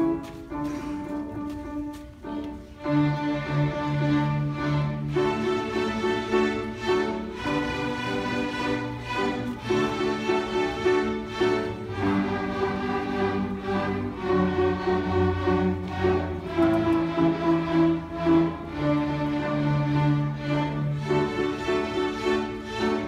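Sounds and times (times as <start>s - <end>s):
string ensemble playing: 0.0s - 23.0s.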